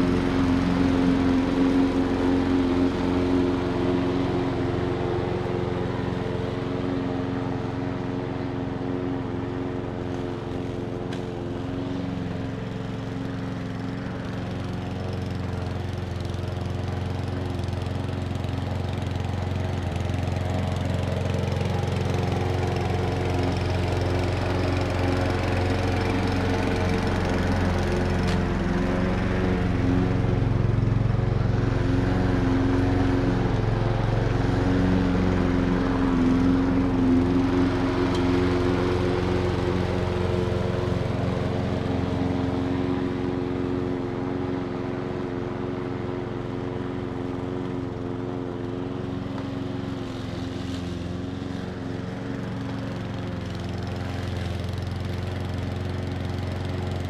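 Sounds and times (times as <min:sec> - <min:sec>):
lawn mower cutting grass: 0:00.0 - 0:57.0.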